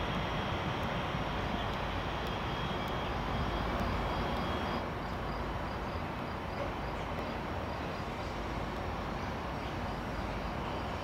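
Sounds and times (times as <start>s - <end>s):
station and traffic rumble: 0.0s - 11.0s.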